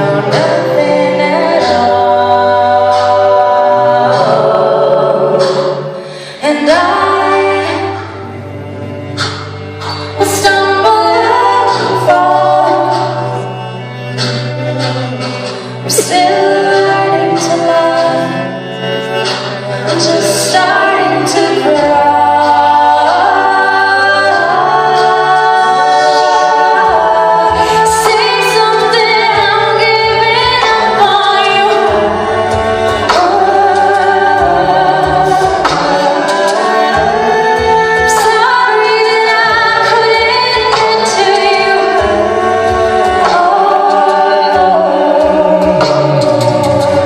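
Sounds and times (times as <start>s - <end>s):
woman singing lead: 0.0s - 9.1s, 10.0s - 47.0s
voices singing in harmony: 0.0s - 47.0s.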